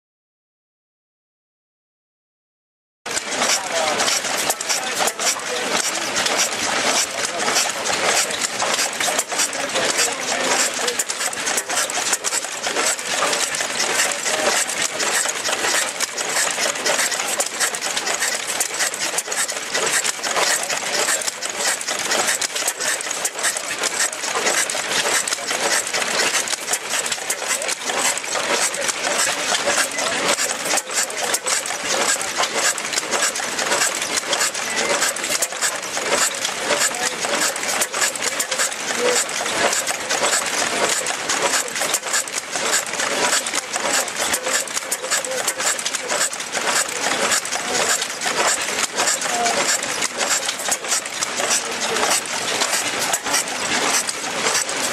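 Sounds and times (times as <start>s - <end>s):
oil engine metallic clatter: 3.1s - 54.9s.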